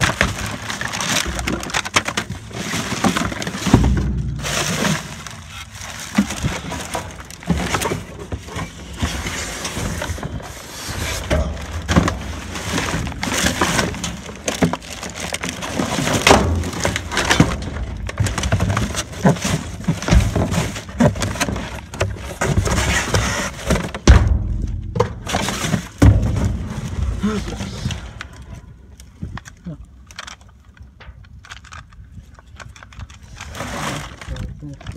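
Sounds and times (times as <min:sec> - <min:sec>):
items knocking and clattering: 0:00.0 - 0:28.4
plastic and cardboard rustling: 0:00.0 - 0:34.9.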